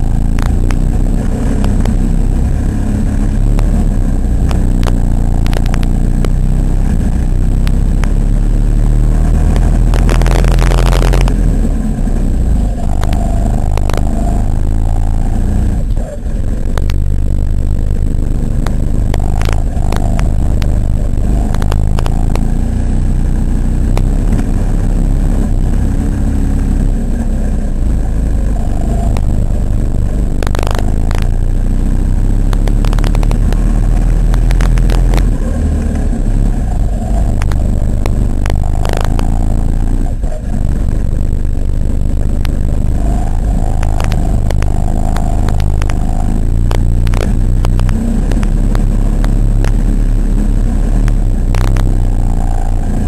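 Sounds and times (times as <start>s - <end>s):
go-kart engine under throttle: 0.0s - 53.0s.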